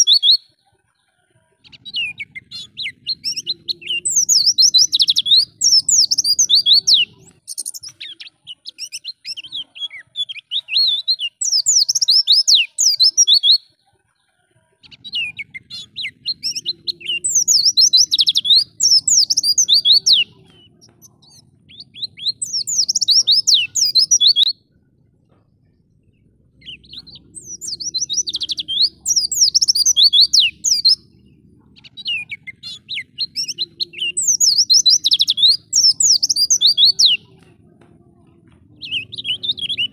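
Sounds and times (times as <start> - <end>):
bird twittering song: 0.0 - 37.6, 38.2 - 39.9.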